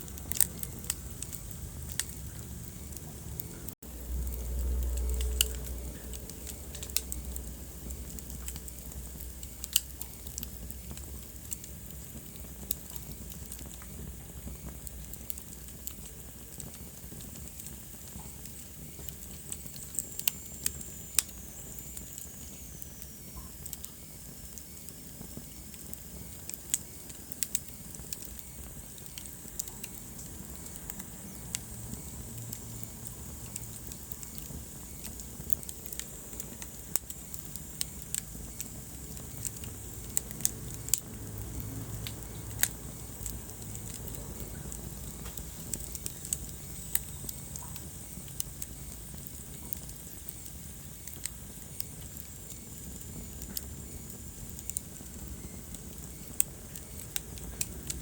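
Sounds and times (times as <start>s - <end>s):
soft steady hiss: 0.0s - 58.0s
wood fire crackling and popping: 0.0s - 58.0s.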